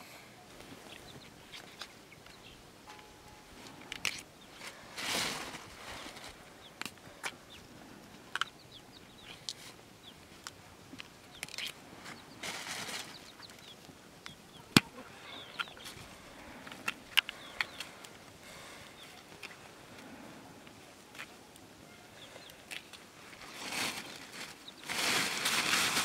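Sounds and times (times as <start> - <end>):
small birds chirping: 0.0 - 25.1
rustle: 0.0 - 26.0.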